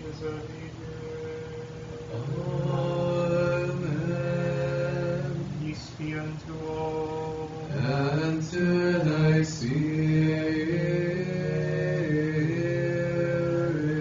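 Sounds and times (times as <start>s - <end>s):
monks chanting: 0.0s - 14.0s.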